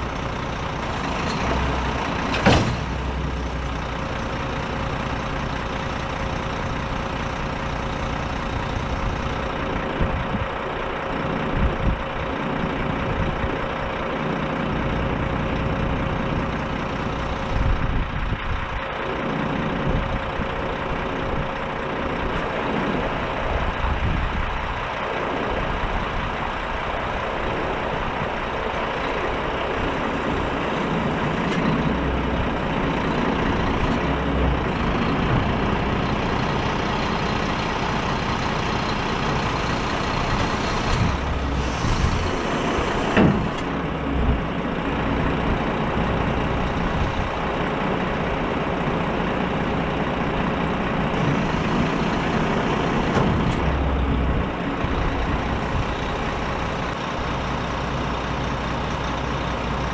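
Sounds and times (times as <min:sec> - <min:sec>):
truck diesel engine idling: 0:00.0 - 0:59.9.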